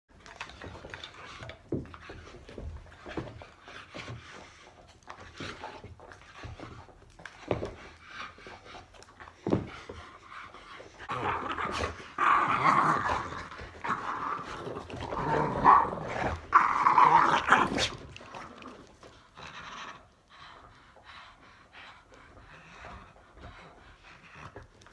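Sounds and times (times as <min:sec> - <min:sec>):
dogs growling: 0:00.2 - 0:24.9.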